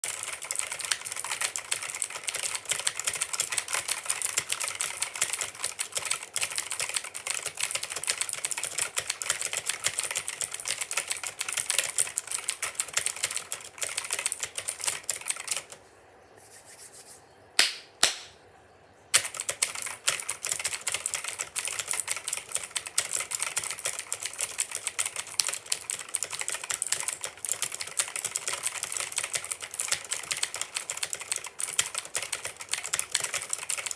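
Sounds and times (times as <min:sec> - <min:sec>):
mechanical keyboard typing: 0:00.0 - 0:15.8, 0:19.2 - 0:33.9.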